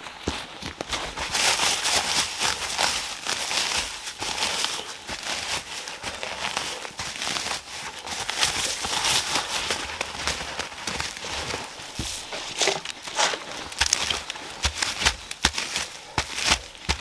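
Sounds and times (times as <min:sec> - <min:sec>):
footsteps crunching through leaves: 0:00.0 - 0:17.0.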